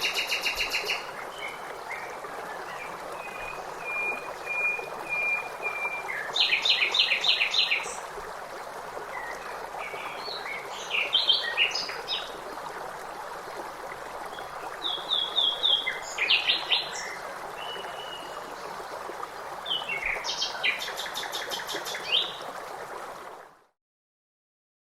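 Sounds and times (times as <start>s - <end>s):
stream rushing: 0.0s - 23.5s.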